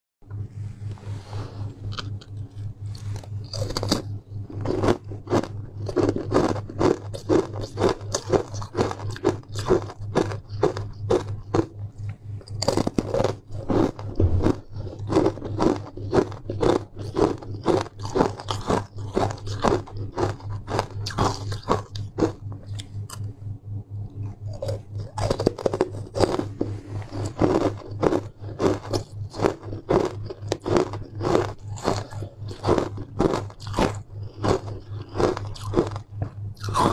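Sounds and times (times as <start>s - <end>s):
steady low hum: 0.2s - 36.9s
crunching and chewing ice: 1.6s - 23.4s, 24.0s - 36.9s.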